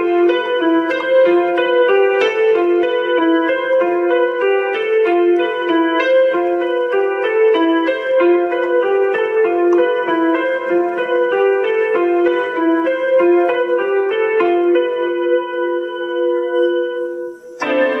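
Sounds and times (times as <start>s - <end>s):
electronic keyboard playing notes: 0.0s - 18.0s.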